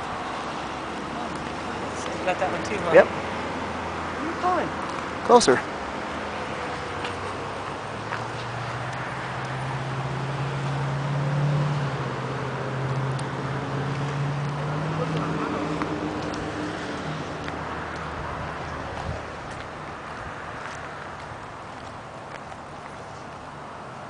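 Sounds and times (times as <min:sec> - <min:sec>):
vehicle engine passing by: 0:00.0 - 0:21.5.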